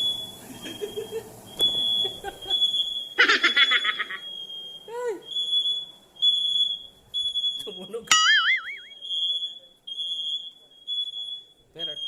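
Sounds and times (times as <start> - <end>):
smoke detector beeping: 0.0 - 12.0.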